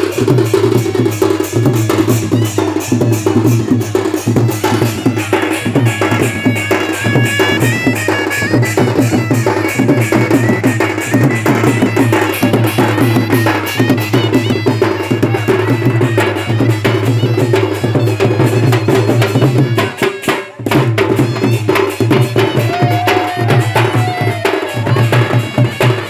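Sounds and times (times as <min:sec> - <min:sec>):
barrel drums beaten fast: 0:00.0 - 0:26.0
wind instrument playing: 0:00.0 - 0:26.0.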